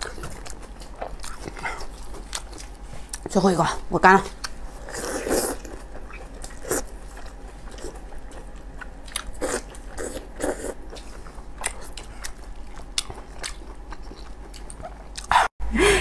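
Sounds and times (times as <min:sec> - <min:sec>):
wet biting and chewing: 0:00.0 - 0:03.3, 0:04.3 - 0:15.5.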